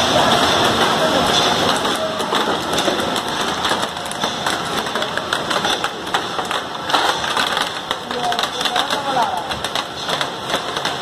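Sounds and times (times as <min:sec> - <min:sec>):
candies clattering into plastic crate: 0:00.0 - 0:11.0
machinery running: 0:00.0 - 0:11.0.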